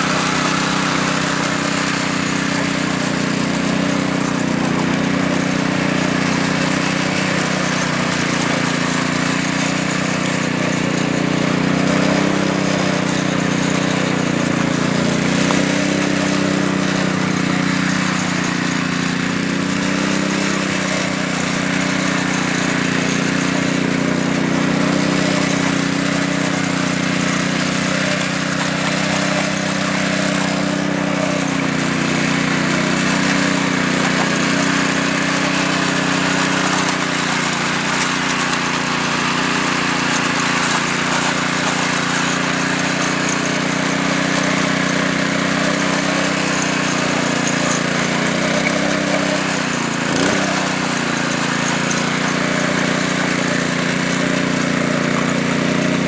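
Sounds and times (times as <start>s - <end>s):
small engine droning: 0.0s - 56.0s.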